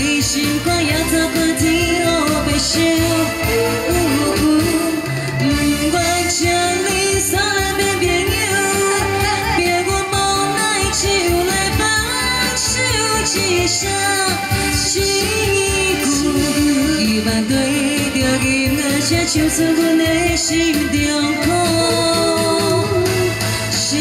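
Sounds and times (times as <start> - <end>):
bass line: 0.0 - 24.0
woman singing pop song: 0.0 - 24.0.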